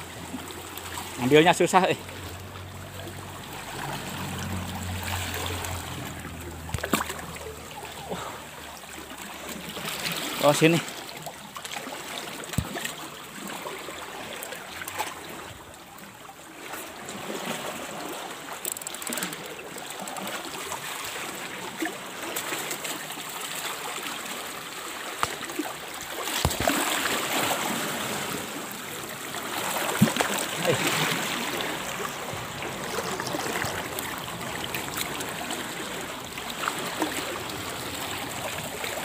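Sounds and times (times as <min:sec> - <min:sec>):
seawater washing over rocks: 0:00.0 - 0:39.0.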